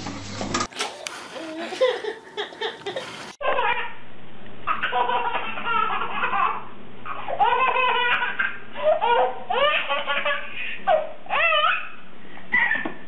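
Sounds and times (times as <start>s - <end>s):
baby laughing: 1.4s - 4.0s, 4.7s - 13.0s.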